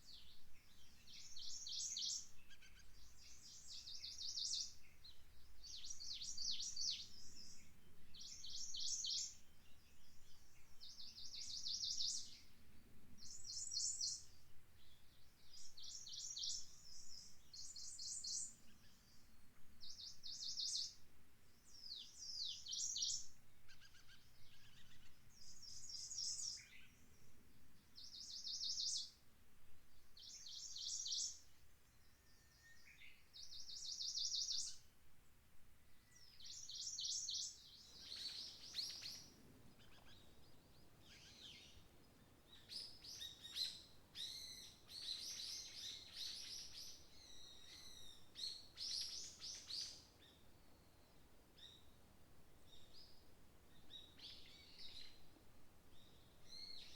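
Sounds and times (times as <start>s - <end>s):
small songbird singing: 0.0s - 29.2s, 29.9s - 34.9s, 35.8s - 56.9s.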